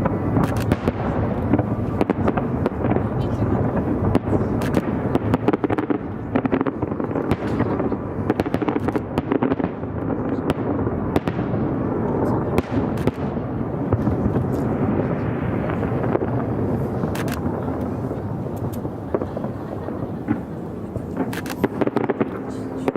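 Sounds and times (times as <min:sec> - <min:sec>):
firework bangs and crackles: 0:00.0 - 0:22.9
rumble of firework explosions: 0:00.0 - 0:22.9.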